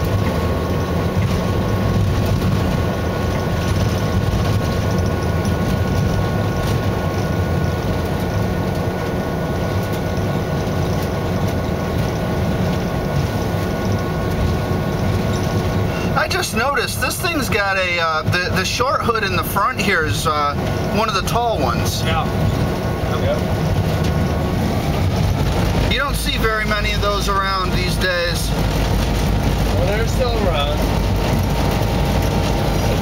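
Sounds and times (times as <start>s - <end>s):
locomotive engine drone: 0.0s - 33.0s.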